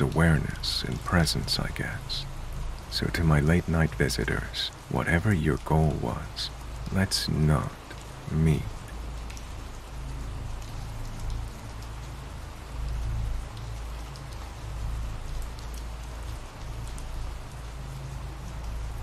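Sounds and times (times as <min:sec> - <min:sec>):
raindrop ticks: 0:00.0 - 0:19.0
steady rainfall: 0:00.0 - 0:19.0.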